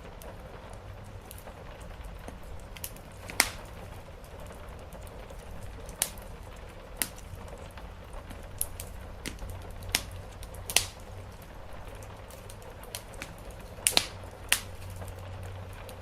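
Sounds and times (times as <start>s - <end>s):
rain on a roof: 0.0s - 16.0s
wood fire crackling: 0.0s - 16.0s
sharp fire pops: 0.1s - 16.0s.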